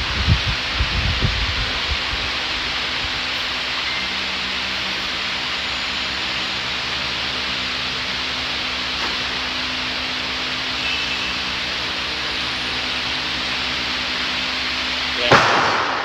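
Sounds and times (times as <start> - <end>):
fan rushing air: 0.0 - 16.0
low motor hum: 0.0 - 16.0.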